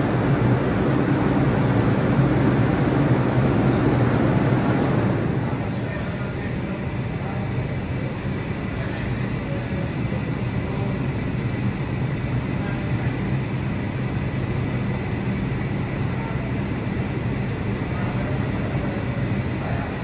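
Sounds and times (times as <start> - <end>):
faint high whine: 0.0 - 20.0
train equipment low hum: 0.0 - 20.0.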